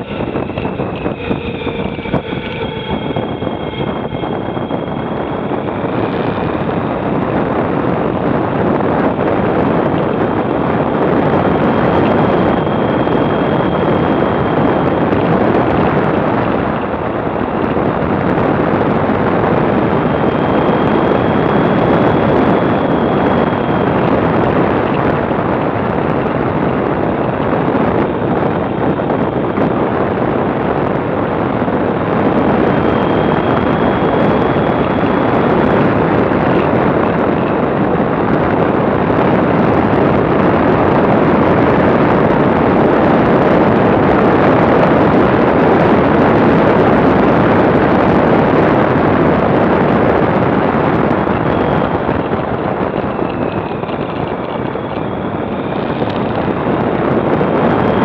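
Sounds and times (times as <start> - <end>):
motorcycle engine running: 0.0 - 42.8, 49.3 - 58.0
wind rush on microphone: 0.0 - 58.0.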